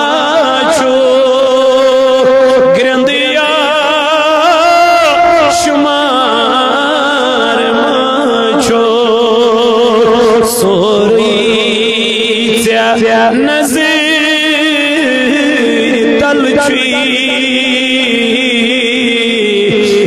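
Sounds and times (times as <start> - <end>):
man chanting through microphone: 0.0 - 20.0.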